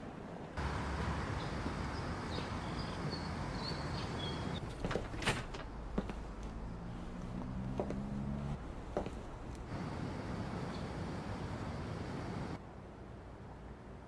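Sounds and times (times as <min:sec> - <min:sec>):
distant traffic rumble: 0:00.0 - 0:12.6.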